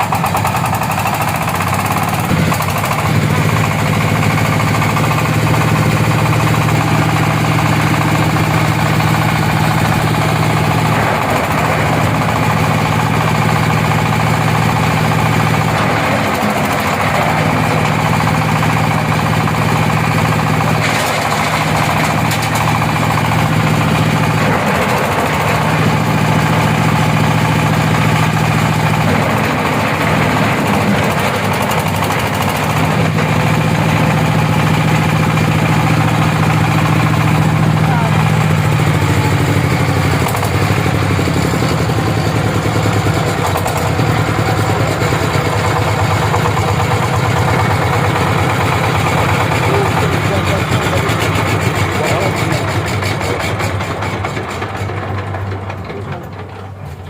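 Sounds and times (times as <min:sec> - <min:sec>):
thresher engine hum: 0:00.0 - 0:57.0.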